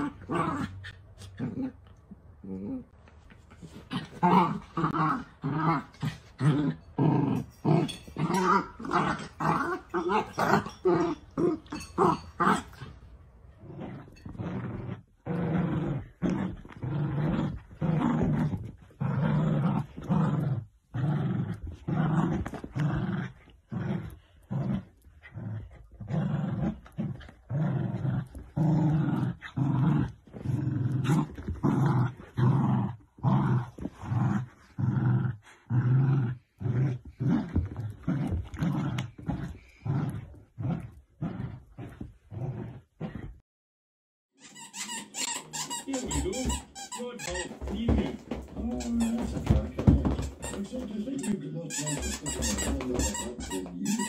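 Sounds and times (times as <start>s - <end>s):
dogs play growling: 0.0s - 43.4s, 44.8s - 54.0s.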